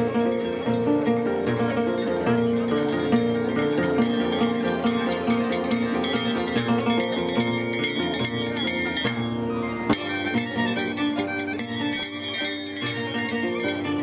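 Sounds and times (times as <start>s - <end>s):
plucked harp: 0.0s - 14.0s
violin: 0.0s - 14.0s.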